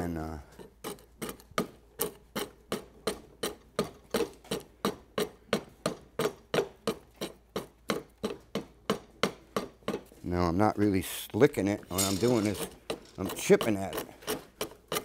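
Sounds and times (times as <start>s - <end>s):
chisel chipping wood: 0.0s - 10.3s, 11.4s - 15.0s.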